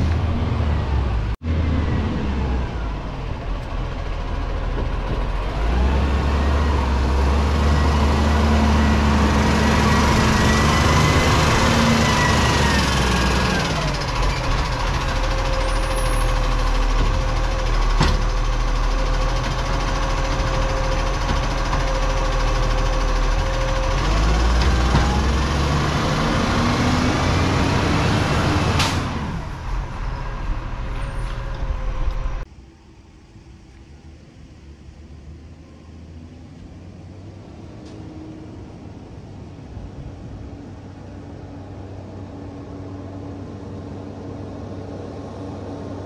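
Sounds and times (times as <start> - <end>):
garbage truck diesel engine: 0.0 - 46.0.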